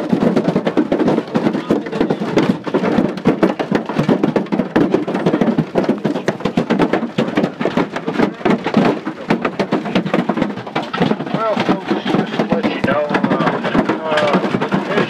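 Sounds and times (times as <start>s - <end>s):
hail pounding aircraft exterior: 0.0s - 15.0s.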